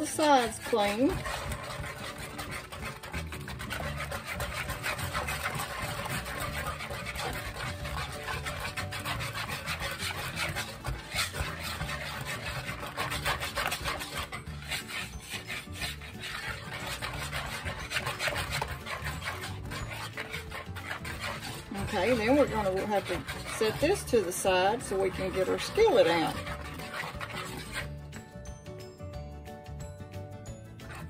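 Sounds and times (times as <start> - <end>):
batter scraped in wooden bowl: 0.0 - 28.6, 30.8 - 31.0.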